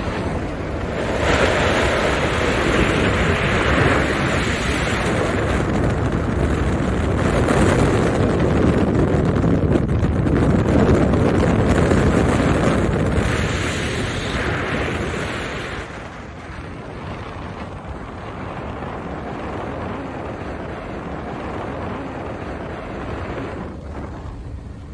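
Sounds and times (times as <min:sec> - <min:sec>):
water rushing past hull: 0:00.0 - 0:24.9
wind buffeting microphone: 0:00.0 - 0:24.9.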